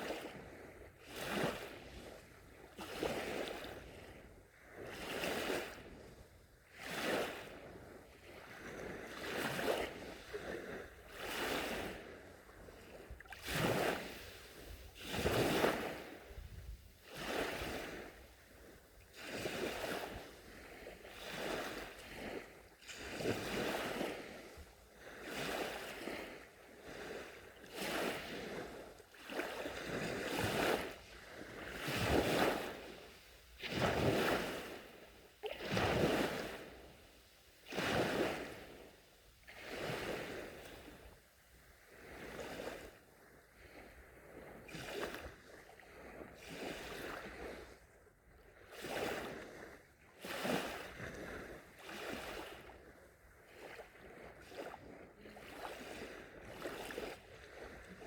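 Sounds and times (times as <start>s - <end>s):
small waves lapping on sand: 0.0s - 58.0s.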